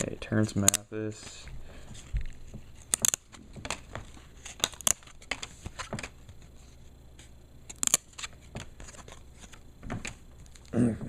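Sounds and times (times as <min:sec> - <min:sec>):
cards being handled: 0:00.0 - 0:10.7.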